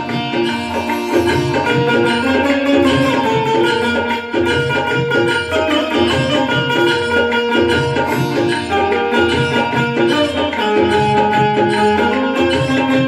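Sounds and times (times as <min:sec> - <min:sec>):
plucked banjo-like keyboard melody: 0:00.0 - 0:13.0
tabla-style rhythm loop: 0:00.0 - 0:13.0.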